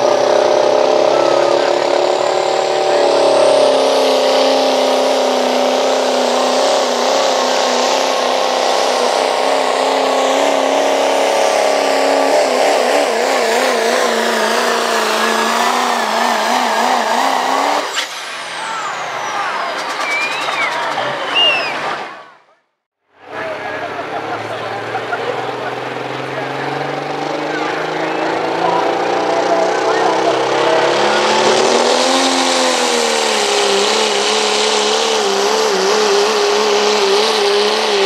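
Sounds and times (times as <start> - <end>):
diesel truck engine at high revs: 0.0 - 22.6, 23.2 - 38.0.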